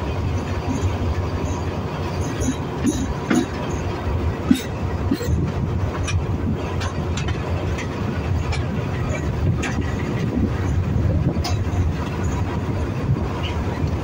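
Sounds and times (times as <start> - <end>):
locomotive engine rumble: 0.0 - 14.0
wheels clicking over rail joints: 0.0 - 14.0.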